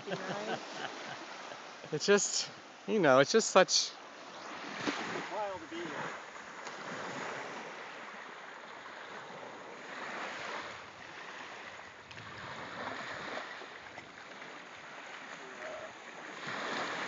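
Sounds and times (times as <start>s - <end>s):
gentle surf on shore: 0.0s - 17.0s.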